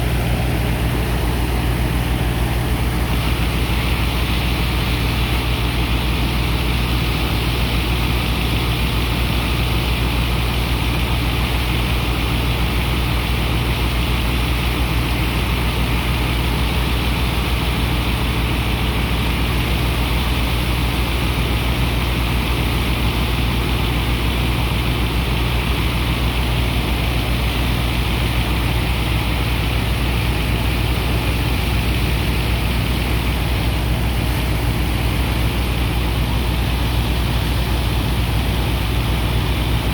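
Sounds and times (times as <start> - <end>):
diesel engine and pump droning: 0.0 - 39.9.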